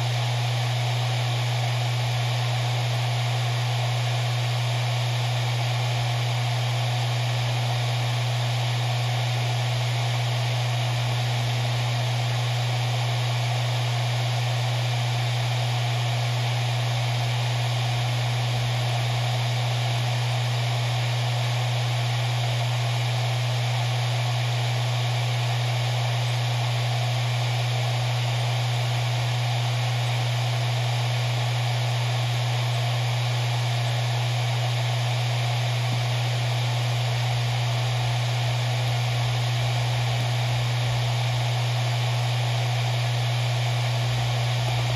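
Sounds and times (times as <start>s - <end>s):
hard drive spinning: 0.0s - 44.9s.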